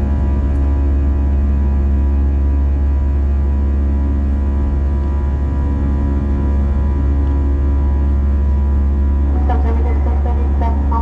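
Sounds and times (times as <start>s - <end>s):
jet engine and airflow drone: 0.0s - 11.0s
steady humming tones: 0.0s - 11.0s.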